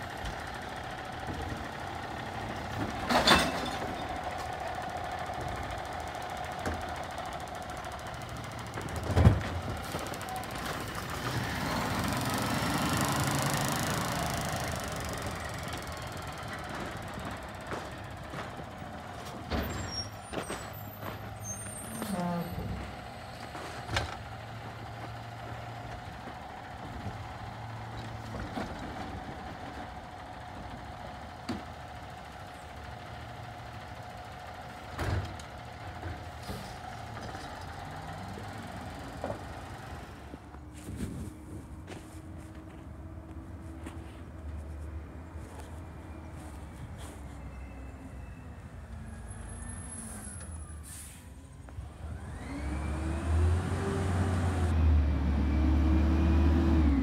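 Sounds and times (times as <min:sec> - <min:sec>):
diesel engine whine: 0:00.0 - 0:57.0.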